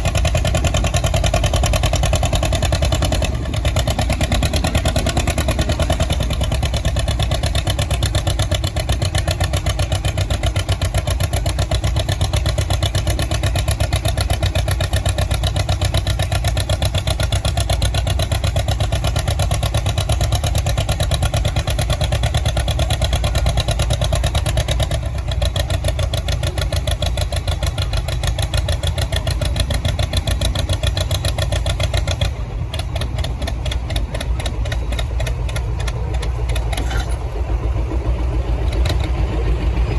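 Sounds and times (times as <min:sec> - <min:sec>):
tractor engine running hard: 0:00.0 - 0:39.9.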